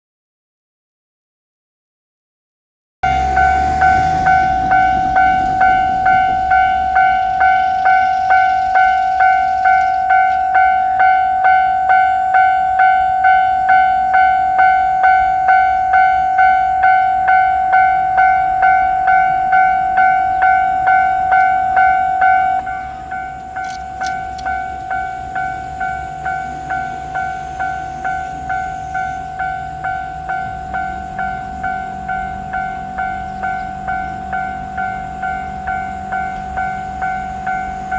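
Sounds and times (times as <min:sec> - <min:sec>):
level crossing bell ringing: 0:03.0 - 0:37.9.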